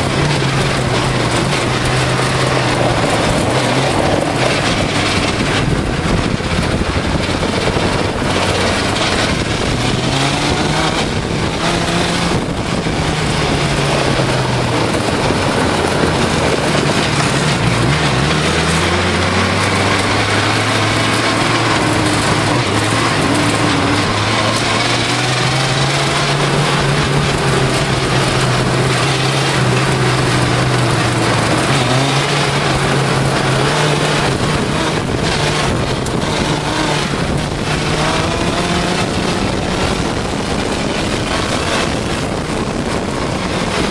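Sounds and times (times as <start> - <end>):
motorcycle engine revving: 0.0 - 43.9
wind and tyres on gravel: 0.0 - 43.9.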